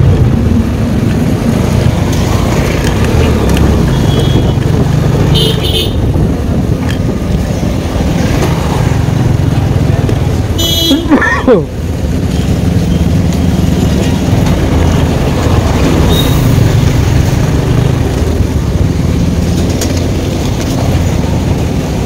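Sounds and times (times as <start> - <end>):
motorcycle engine drone: 0.0 - 22.0.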